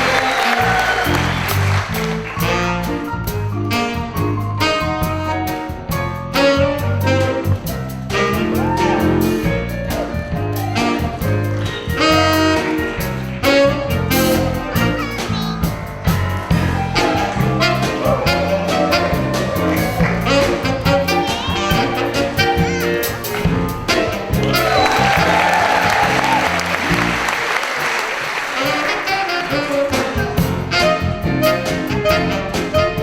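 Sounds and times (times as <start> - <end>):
jazz band music: 0.0 - 33.0.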